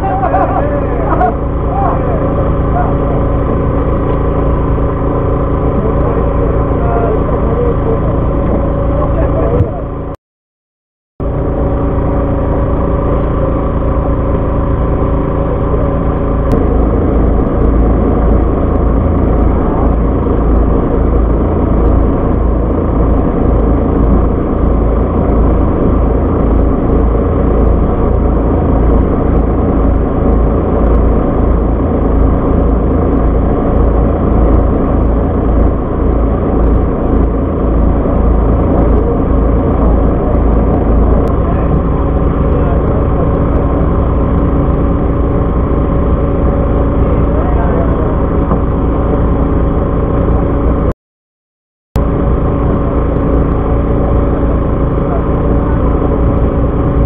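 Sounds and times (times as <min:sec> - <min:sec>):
boat engine droning: 0:00.0 - 0:10.2, 0:11.2 - 0:51.0, 0:52.0 - 0:57.0.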